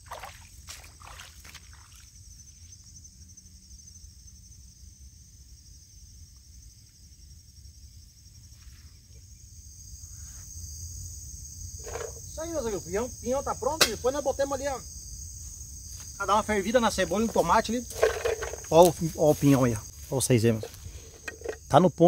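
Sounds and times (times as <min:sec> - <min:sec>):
insect chorus trilling: 0:00.0 - 0:22.0.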